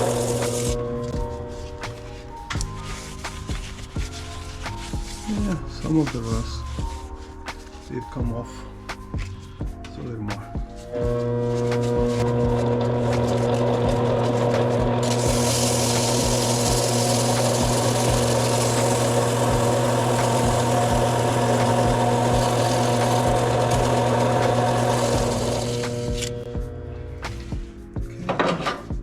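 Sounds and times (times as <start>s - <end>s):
lathe motor humming: 0.0s - 7.3s, 10.8s - 26.8s
sandpaper sanding metal: 0.0s - 8.0s, 10.8s - 26.4s.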